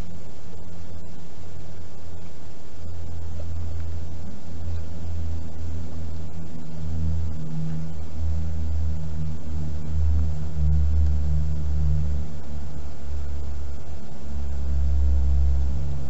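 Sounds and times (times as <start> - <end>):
faint constant hum: 0.0 - 16.0
low mechanical drone: 0.0 - 16.0.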